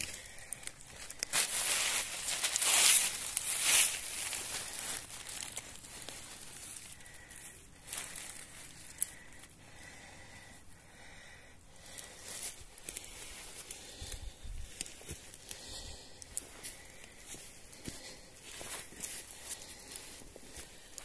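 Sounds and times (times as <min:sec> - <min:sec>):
dry leaves rustling and crackling: 0:00.0 - 0:09.5, 0:11.8 - 0:21.0.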